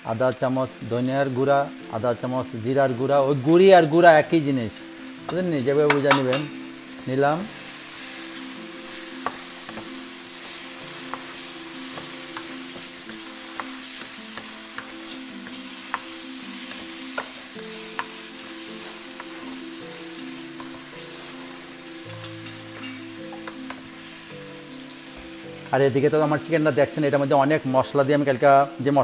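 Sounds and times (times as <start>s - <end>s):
masala sizzling in hot oil: 0.0s - 29.0s.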